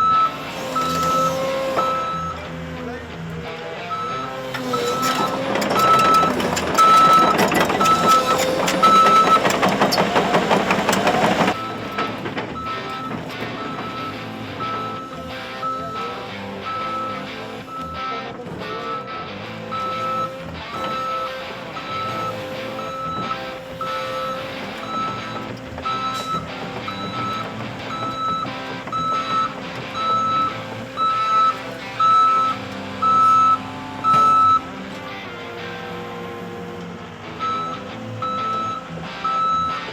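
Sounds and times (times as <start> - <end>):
backup alarm beeping: 0.0 - 2.6, 3.9 - 34.8, 37.4 - 39.9
diesel engine running: 0.0 - 39.9
metallic clanking of steel tracks: 0.0 - 39.9.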